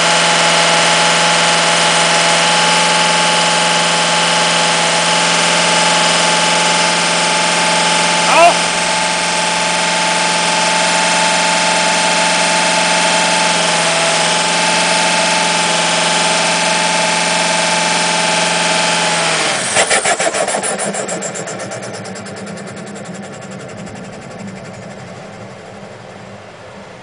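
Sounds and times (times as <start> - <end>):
engine running with whine: 0.0 - 27.0
rhythmic engine pulsing: 0.0 - 27.0.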